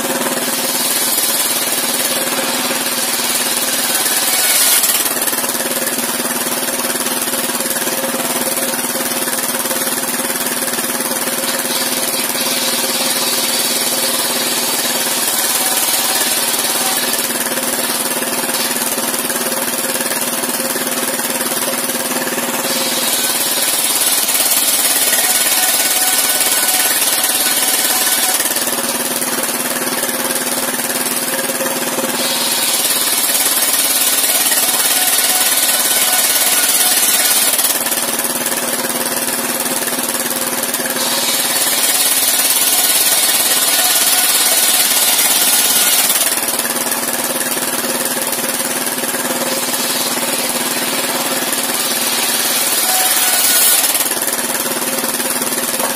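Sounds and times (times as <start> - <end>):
circular saw cutting wood: 0.0 - 55.9
sawmill engine running: 0.0 - 55.9.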